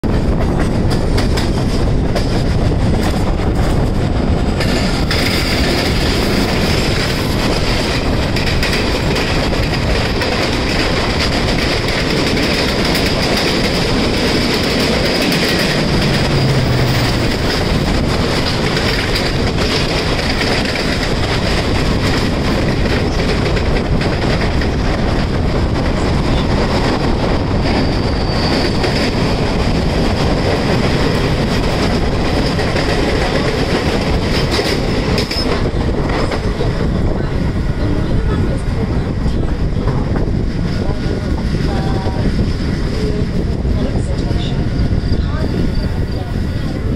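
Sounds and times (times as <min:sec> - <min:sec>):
clickety-clack over rail joints: 0:00.0 - 0:46.9
rushing air: 0:00.0 - 0:46.9
train wheels rumbling on rails: 0:00.0 - 0:46.9.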